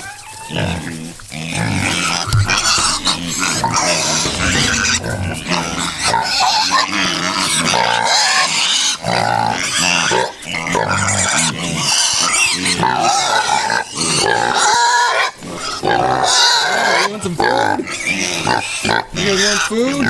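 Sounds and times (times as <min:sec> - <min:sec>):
pigs grunting: 0:00.0 - 0:20.0
pigs squealing: 0:00.0 - 0:20.0.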